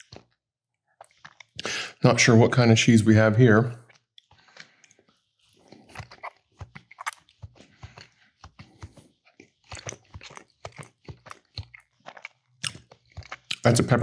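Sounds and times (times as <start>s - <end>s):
person chewing: 0.0s - 0.4s, 1.0s - 2.0s, 3.8s - 14.0s.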